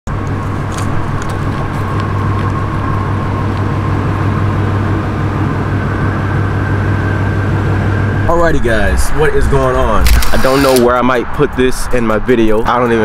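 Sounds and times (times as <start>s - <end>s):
car engine running: 0.1s - 10.9s.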